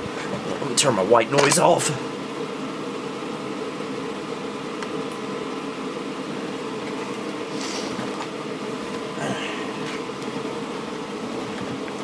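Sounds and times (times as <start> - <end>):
fans whirring: 0.0 - 12.0.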